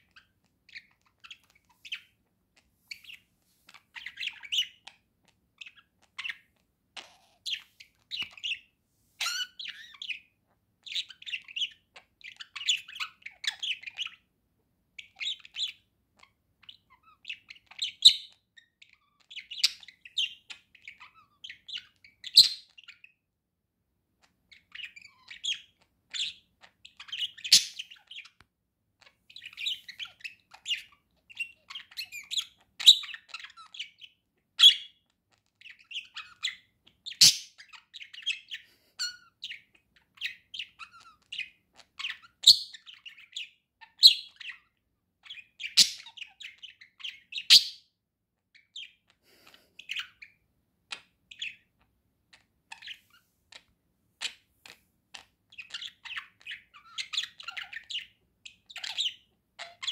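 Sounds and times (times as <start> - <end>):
budgerigar warbling and chirping: 0.1 - 2.2, 2.9 - 14.3, 15.0 - 23.2, 24.2 - 28.4, 29.0 - 59.9.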